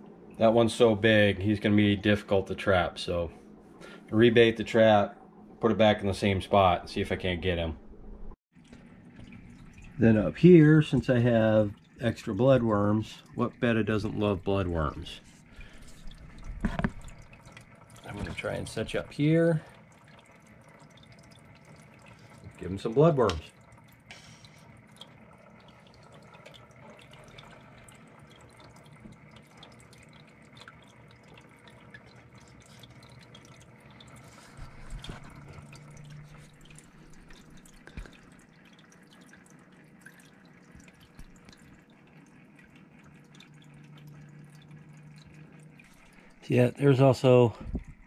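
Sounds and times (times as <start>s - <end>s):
aquarium water trickling: 0.0s - 7.8s, 8.5s - 48.0s
low steady hum: 0.0s - 48.0s.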